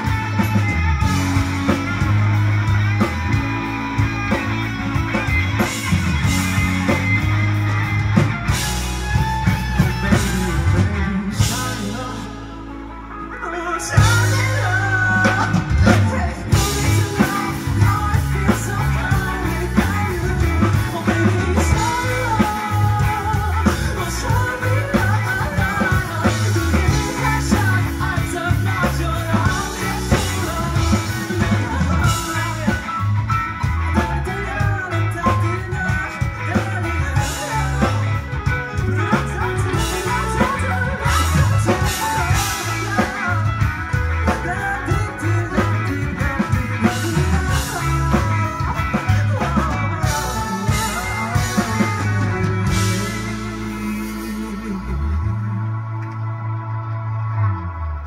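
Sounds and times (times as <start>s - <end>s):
lead singer singing: 0.0s - 56.6s
bass guitar: 0.0s - 58.0s
drums: 0.0s - 58.0s
electric guitar: 0.0s - 58.0s
keyboards: 0.0s - 58.0s.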